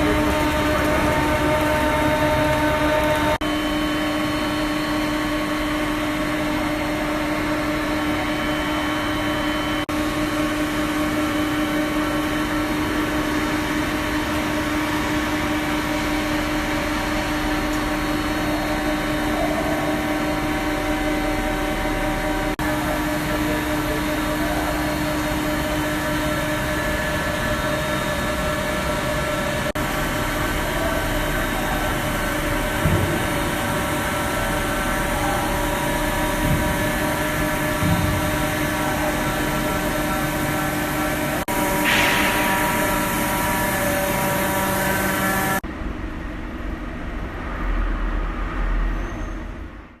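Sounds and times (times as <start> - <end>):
pelletising machine humming: 0.0 - 45.6.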